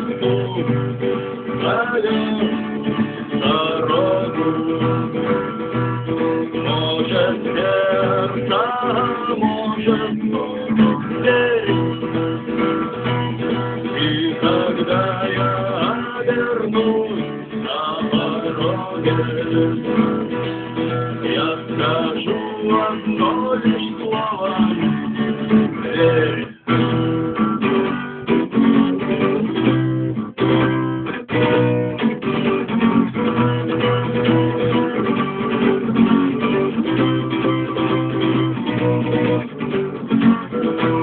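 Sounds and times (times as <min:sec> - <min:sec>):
acoustic guitar strumming chords: 0:00.0 - 0:41.0.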